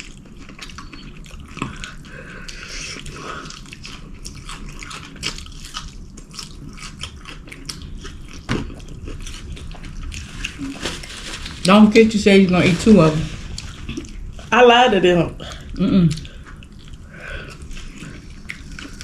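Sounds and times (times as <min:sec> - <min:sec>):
chewing fried chicken: 0:00.0 - 0:11.7, 0:13.3 - 0:14.5, 0:15.4 - 0:19.0.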